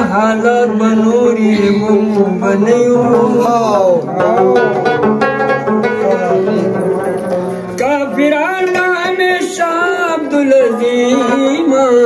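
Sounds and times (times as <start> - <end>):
man singing: 0.0 - 7.0, 7.8 - 12.0
rabab plucking a melody: 0.0 - 12.0.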